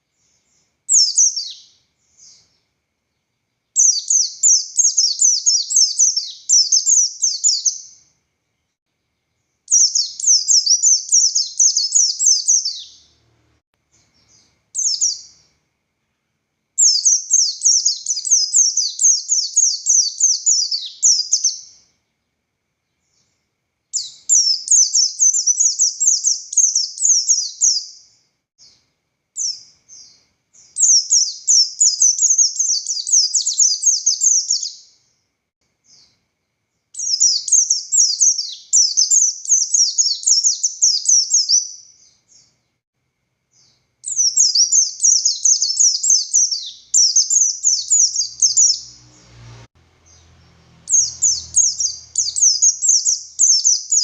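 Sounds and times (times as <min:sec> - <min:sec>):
white-eye bird singing: 0:00.0 - 0:22.3, 0:22.9 - 0:28.8, 0:29.4 - 0:35.1, 0:35.8 - 0:36.2, 0:36.8 - 0:42.8, 0:43.5 - 0:49.4, 0:50.0 - 0:54.0.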